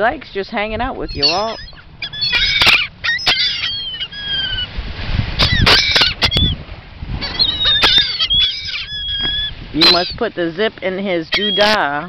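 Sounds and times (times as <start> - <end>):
gulls calling: 0.6 - 12.0.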